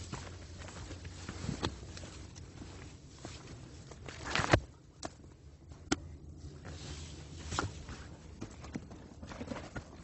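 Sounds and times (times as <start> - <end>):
footsteps on a trail: 0.0 - 10.0.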